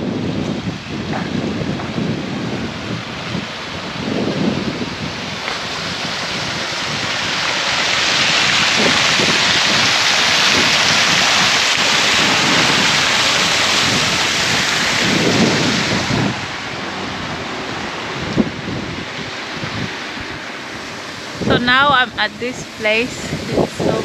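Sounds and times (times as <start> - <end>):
river water rushing over rapids: 0.0 - 24.0.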